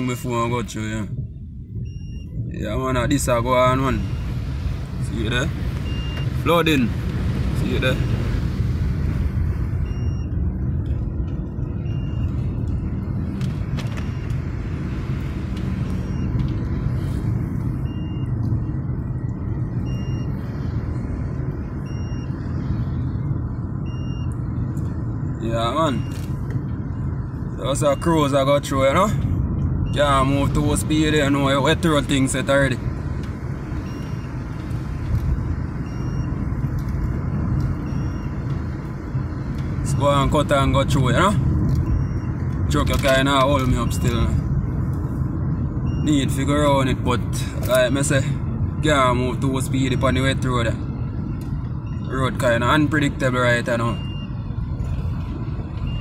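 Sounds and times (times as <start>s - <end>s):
car driving on wet road: 1.8s - 56.0s.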